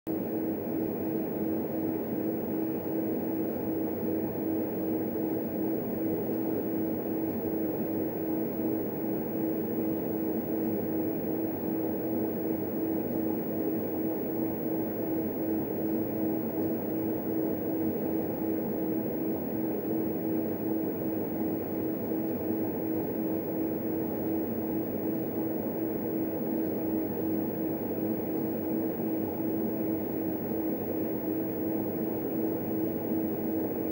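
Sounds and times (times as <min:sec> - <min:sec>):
cooling fan humming: 0:00.1 - 0:33.9.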